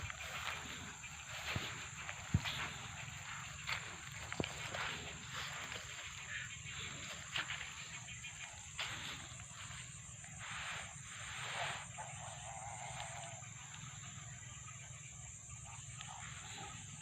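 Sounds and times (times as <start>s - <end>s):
flock of birds chattering: 0.0s - 17.0s
high insect drone: 0.0s - 17.0s.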